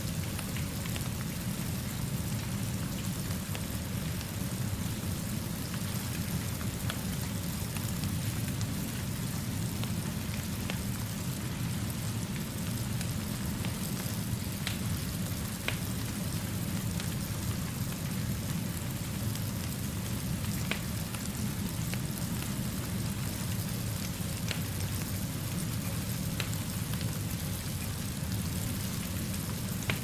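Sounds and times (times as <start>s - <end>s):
fire burning: 0.0s - 30.0s
fire crackles: 0.0s - 30.0s
steady rain: 0.0s - 30.0s.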